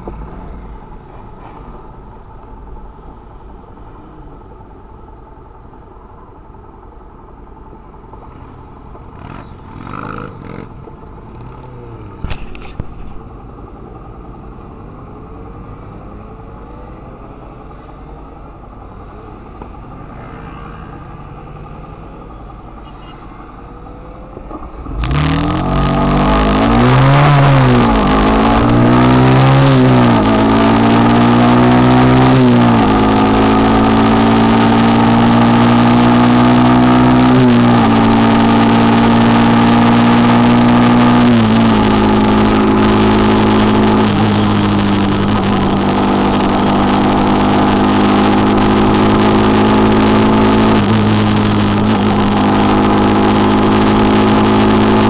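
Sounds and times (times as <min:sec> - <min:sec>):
motorcycle engine revving: 0:08.3 - 0:55.0.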